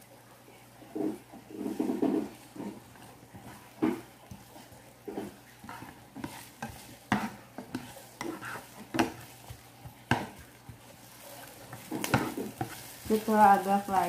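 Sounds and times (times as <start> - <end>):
spatula scraping a frying pan: 0.9 - 14.0
onions sizzling in oil: 1.2 - 14.0.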